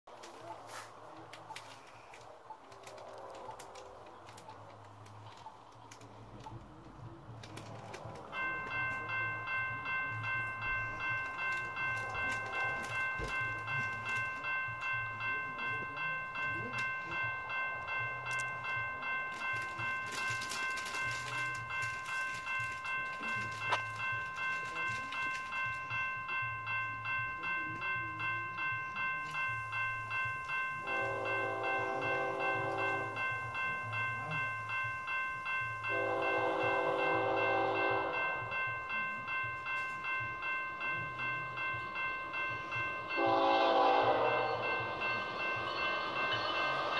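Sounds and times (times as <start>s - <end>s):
railroad crossing bell ringing: 6.2s - 46.9s.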